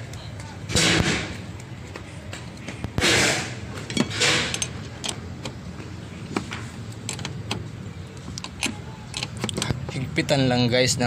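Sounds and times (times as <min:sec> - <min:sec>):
parts being handled and fitted: 0:00.0 - 0:10.1.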